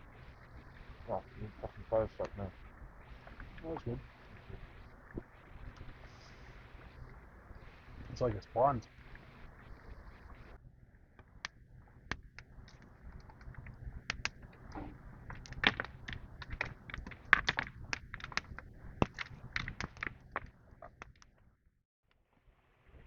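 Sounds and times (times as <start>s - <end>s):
campfire crackling and popping: 0.0s - 21.4s.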